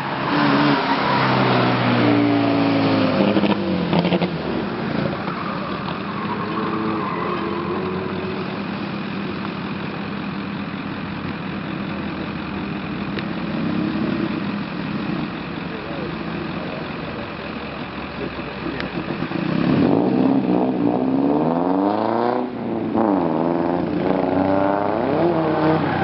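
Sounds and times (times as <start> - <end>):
car engine revving: 0.0 - 10.1, 10.7 - 26.0.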